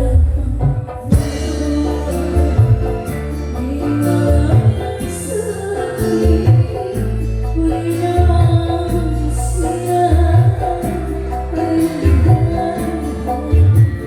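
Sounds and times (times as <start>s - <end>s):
heavy sustained bass: 0.0s - 14.0s
wavering melody line: 1.1s - 14.0s.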